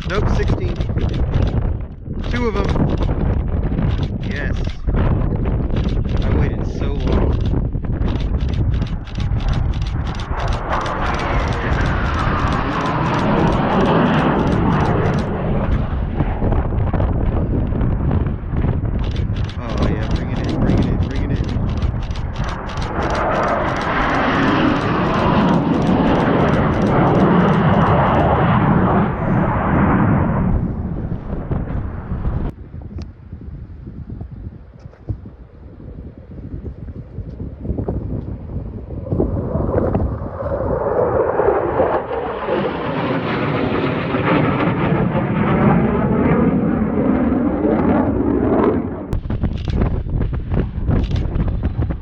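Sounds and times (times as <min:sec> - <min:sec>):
jet roaring overhead: 0:00.0 - 0:52.0
wind buffeting microphone: 0:00.0 - 0:52.0.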